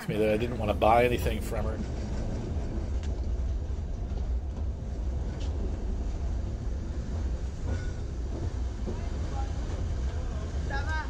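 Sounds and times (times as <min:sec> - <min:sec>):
train rumbling slowly: 0:00.0 - 0:11.0.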